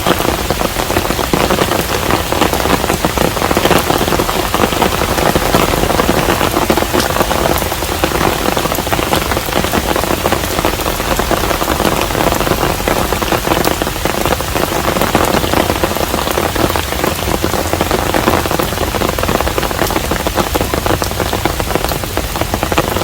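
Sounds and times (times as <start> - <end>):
rain falling on a house: 0.0 - 23.0.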